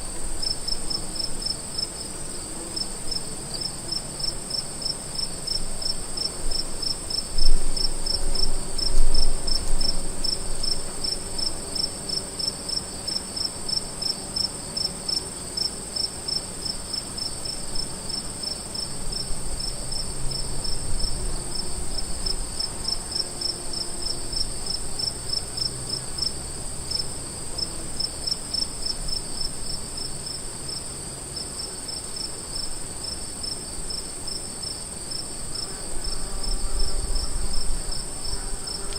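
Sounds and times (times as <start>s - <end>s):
cricket chirps: 0.2s - 38.9s.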